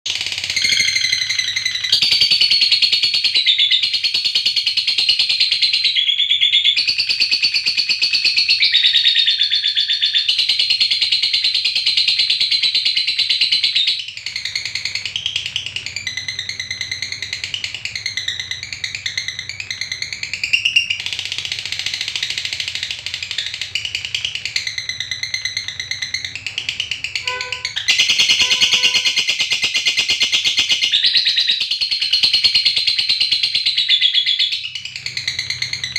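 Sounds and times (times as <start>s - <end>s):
lovebird chattering trill: 0.1s - 35.9s.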